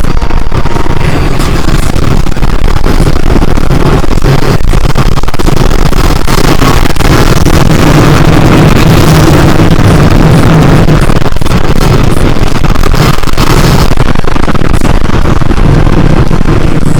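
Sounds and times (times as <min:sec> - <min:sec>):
two-stroke motorcycle engine running: 0:00.0 - 0:16.9.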